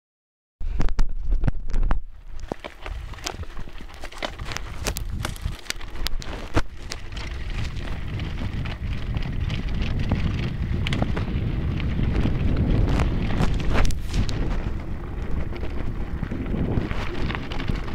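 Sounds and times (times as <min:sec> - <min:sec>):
bike tyres on gravel: 0:00.7 - 0:17.9
wind buffeting microphone: 0:00.7 - 0:17.9.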